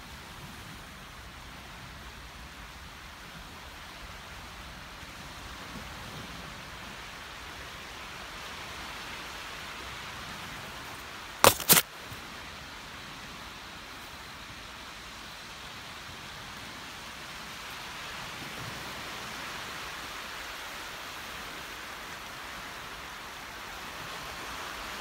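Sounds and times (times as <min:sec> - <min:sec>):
steady outdoor hiss: 0:00.0 - 0:25.0.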